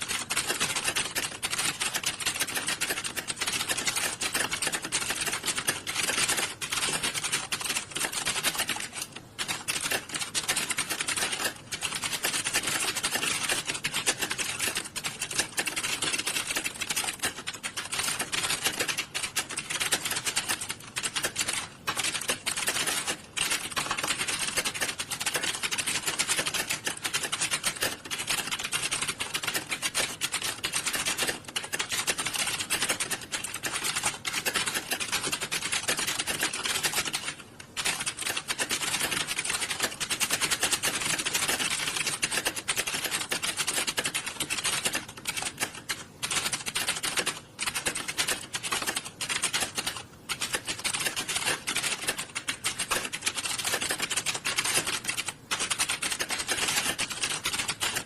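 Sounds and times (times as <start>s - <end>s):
many people typing on keyboards: 0.0s - 58.0s.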